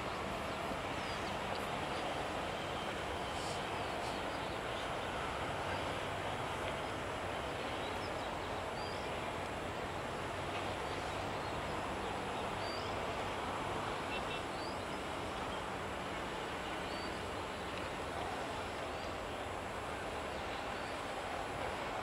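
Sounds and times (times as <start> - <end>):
locomotive engine drone: 0.0 - 22.0.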